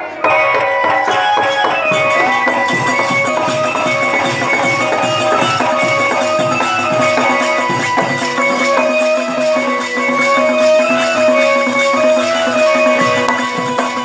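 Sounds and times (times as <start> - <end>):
melody of held notes: 0.0 - 14.0
percussion beats: 0.0 - 14.0.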